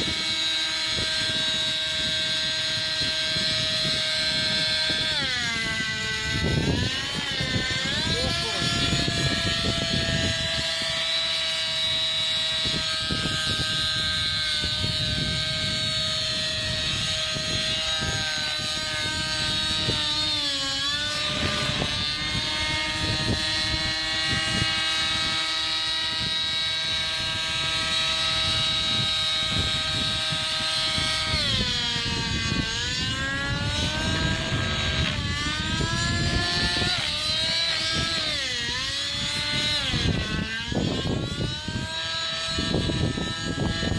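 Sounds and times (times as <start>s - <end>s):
model helicopter engine whine: 0.0s - 43.9s.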